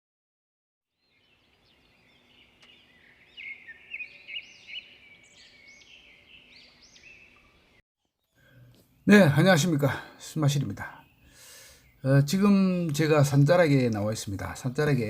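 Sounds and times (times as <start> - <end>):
songbirds singing: 0.9 - 15.0.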